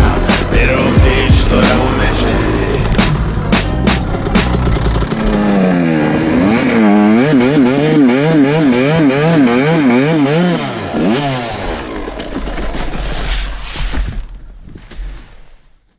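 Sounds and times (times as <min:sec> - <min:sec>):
dirt bike engine revving: 0:00.0 - 0:13.6.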